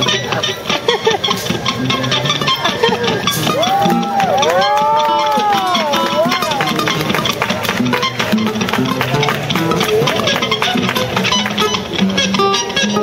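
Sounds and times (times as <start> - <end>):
plucked guitar notes: 0.0 - 13.0.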